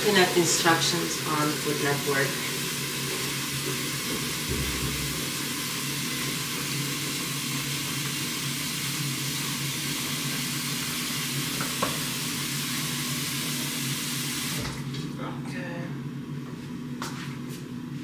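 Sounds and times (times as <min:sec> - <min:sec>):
pot of water heating hiss: 0:00.0 - 0:14.8.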